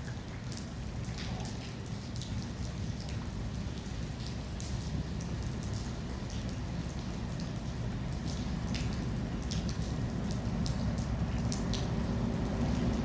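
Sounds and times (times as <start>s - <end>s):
rain falling: 0.0s - 13.0s
raindrops ticking: 0.0s - 13.0s.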